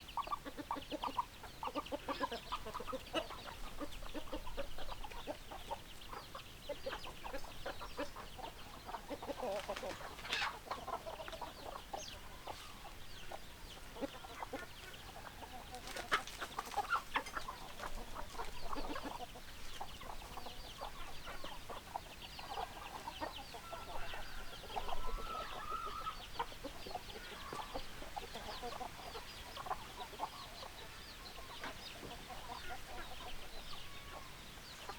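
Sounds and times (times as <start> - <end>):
drawn-out hen call: 0.0 - 34.9
hens clucking: 0.0 - 34.9.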